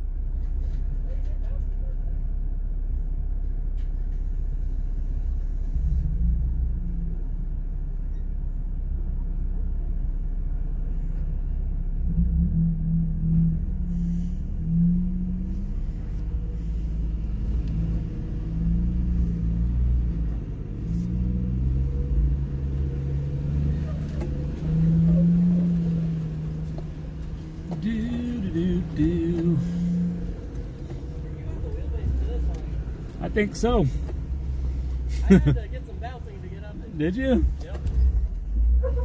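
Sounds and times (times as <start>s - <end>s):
car engine running low: 0.0s - 39.0s.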